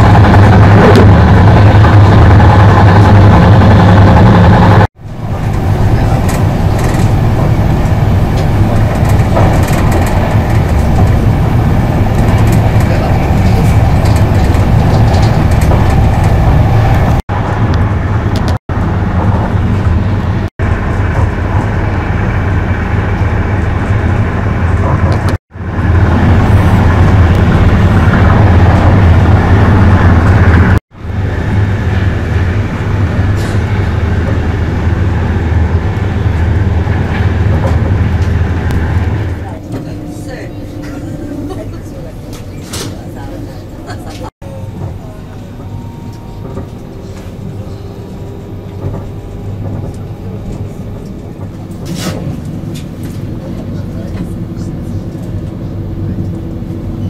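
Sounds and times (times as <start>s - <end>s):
train running at speed: 0.0s - 57.0s.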